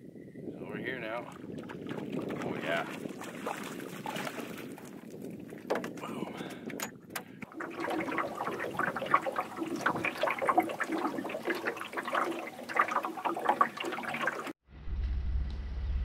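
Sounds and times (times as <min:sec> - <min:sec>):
water splashing and gurgling: 0:01.0 - 0:14.6.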